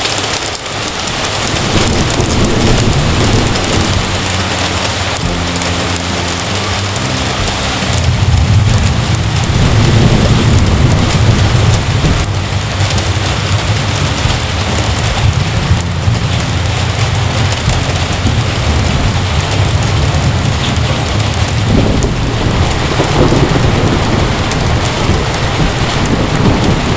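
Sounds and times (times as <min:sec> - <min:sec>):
continuous low rumble: 0:00.0 - 0:26.9
heavy rain falling: 0:00.0 - 0:26.9
rain drop ticks: 0:00.0 - 0:26.9.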